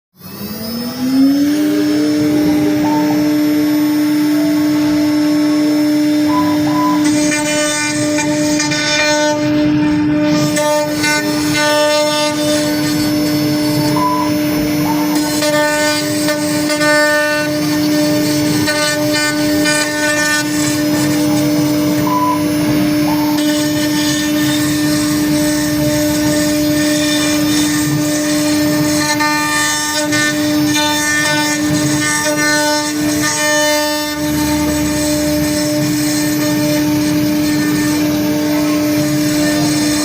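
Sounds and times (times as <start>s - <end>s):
router spindle whining: 0.2s - 40.0s
wood cutting sound: 0.2s - 40.0s.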